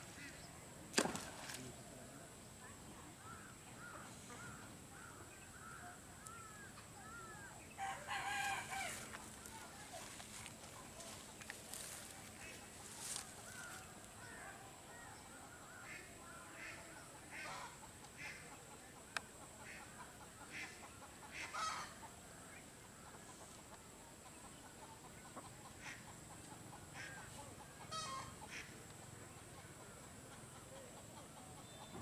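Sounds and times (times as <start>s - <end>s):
fowl calling faintly: 3.2s - 18.6s, 19.5s - 23.6s, 25.2s - 32.0s.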